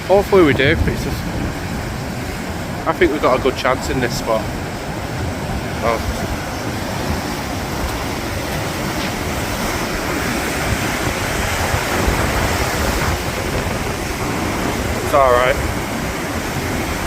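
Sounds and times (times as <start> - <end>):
surf washing onto beach: 0.0 - 17.0
wind rumbling on microphone: 0.0 - 17.0.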